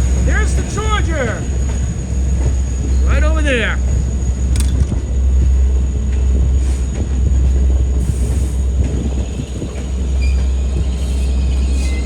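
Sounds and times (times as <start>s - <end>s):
diesel train rumbling past: 0.0s - 12.0s.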